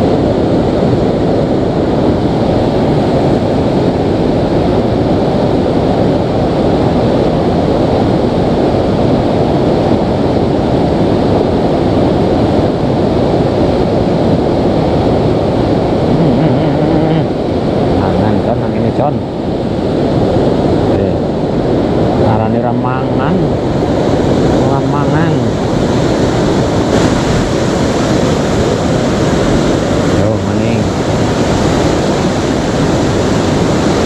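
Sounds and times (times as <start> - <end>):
river rushing over rapids: 0.0 - 34.0.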